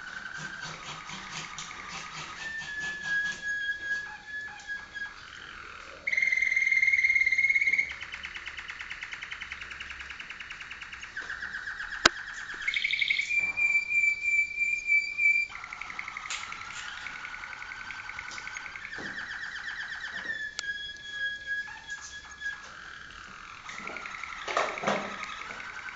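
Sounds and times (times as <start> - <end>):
canary singing: 0.0 - 25.9.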